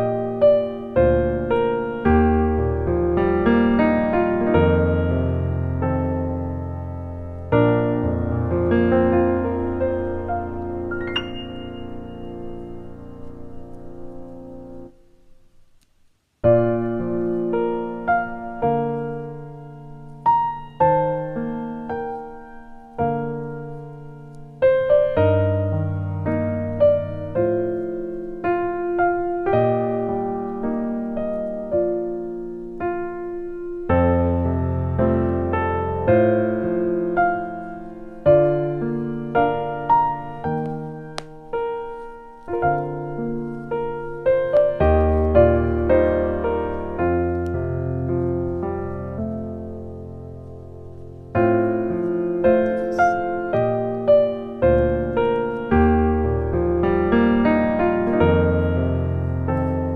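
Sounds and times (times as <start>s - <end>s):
soft piano music: 0.0s - 15.6s, 16.4s - 59.9s.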